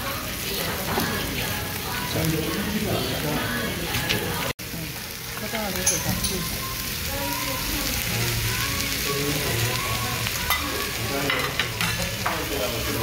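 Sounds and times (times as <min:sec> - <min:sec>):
food sizzling on a griddle pan: 0:00.0 - 0:13.0.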